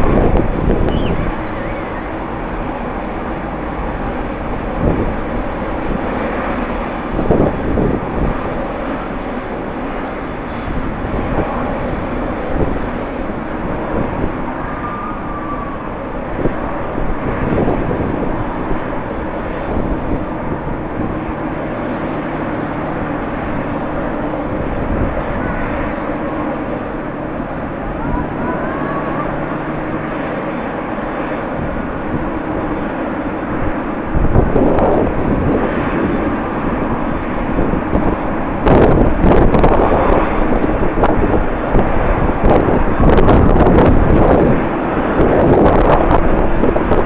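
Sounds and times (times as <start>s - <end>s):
airliner engines rumbling: 0.0s - 47.0s
wind on microphone: 0.0s - 47.0s.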